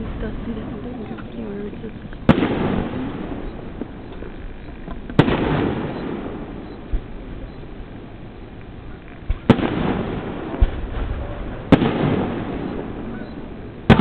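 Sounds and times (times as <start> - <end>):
fireworks bangs: 0.0 - 14.0
rolling rumble: 0.0 - 14.0.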